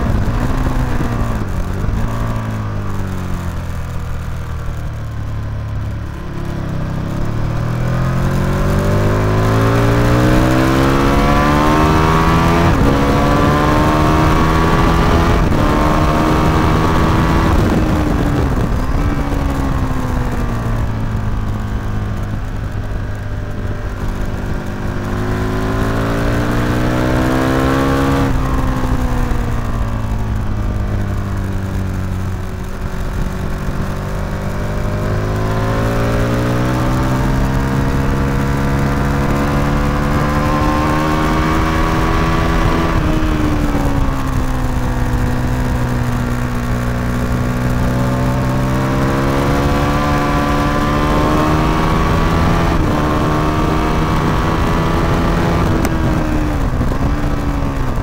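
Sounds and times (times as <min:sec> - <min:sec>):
motorcycle engine: 0:00.0 - 0:58.0
wind noise: 0:00.0 - 0:58.0.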